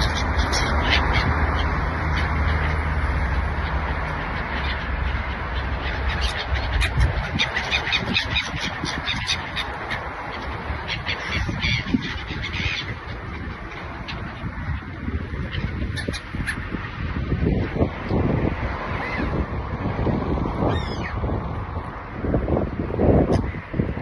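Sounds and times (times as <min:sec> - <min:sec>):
gulls squawking: 0:00.0 - 0:19.5, 0:20.6 - 0:21.3, 0:23.1 - 0:24.0.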